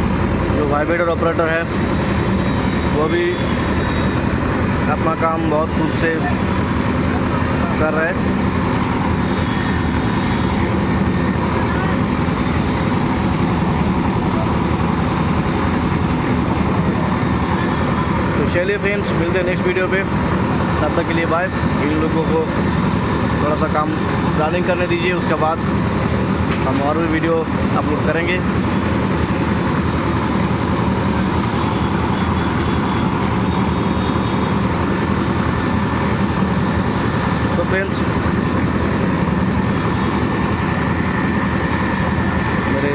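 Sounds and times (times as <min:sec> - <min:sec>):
construction machine engine drone: 0:00.0 - 0:42.9.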